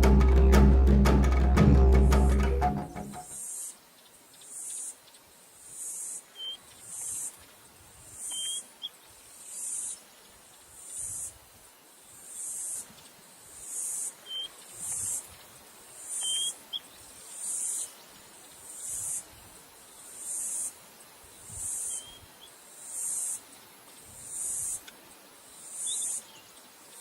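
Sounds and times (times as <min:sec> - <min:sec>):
insects buzzing: 0:02.9 - 0:27.0.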